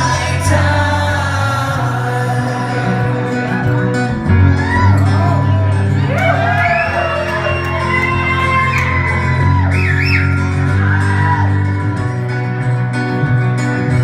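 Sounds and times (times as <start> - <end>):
acoustic band playing: 0.0 - 14.0.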